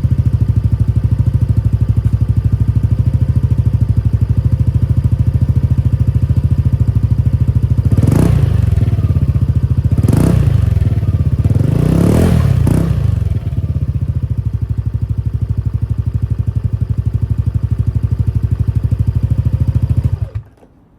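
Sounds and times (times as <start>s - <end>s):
scooter engine idling and revving: 0.0s - 20.5s.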